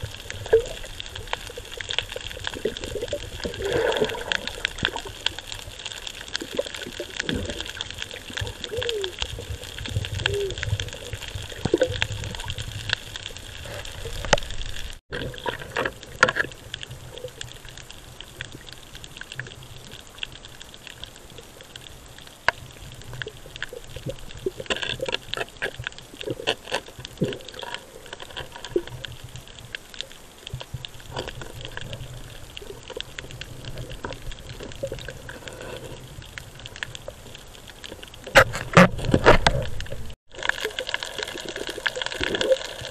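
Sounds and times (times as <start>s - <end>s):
muffled underwater noise: 0.0s - 41.2s
underwater clicks and crackles: 0.0s - 42.9s.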